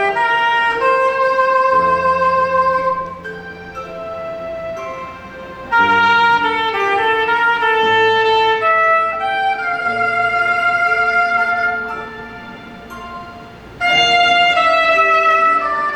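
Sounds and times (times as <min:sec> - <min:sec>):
musical accompaniment: 0:00.0 - 0:15.9
soprano saxophone melody: 0:00.0 - 0:15.9.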